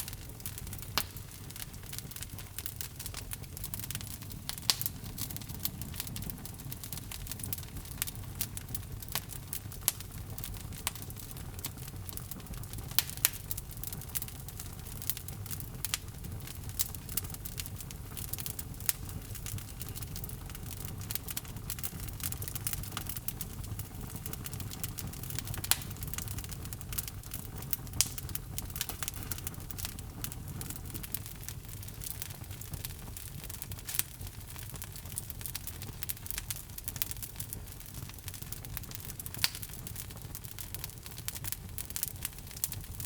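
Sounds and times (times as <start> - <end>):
low rumble of fire: 0.0 - 43.0
wood crackling and popping: 0.0 - 43.0.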